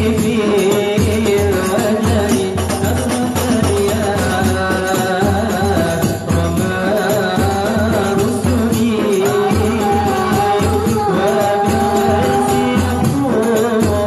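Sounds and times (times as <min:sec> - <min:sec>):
frame drums beating: 0:00.0 - 0:14.0
voices singing: 0:00.0 - 0:14.0.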